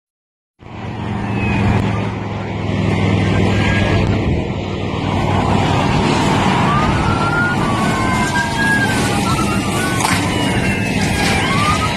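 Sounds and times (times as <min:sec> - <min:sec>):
faint siren wailing: 0:00.6 - 0:11.9
highway traffic passing: 0:00.6 - 0:11.9.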